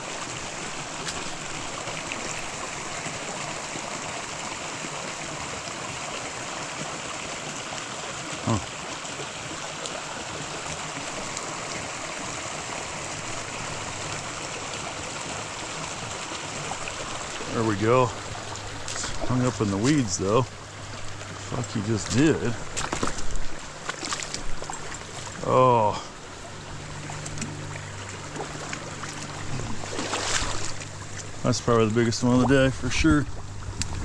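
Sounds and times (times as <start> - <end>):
creek water running over rocks: 0.0 - 34.0.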